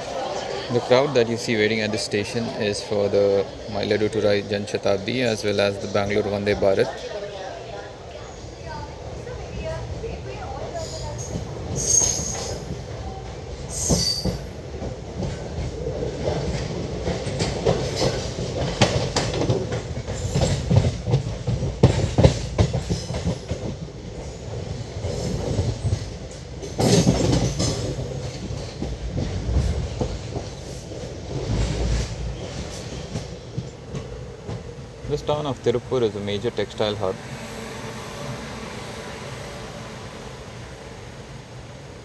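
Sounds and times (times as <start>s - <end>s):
train rumble: 0.0s - 42.0s
train wheels clattering over rails: 0.0s - 42.0s.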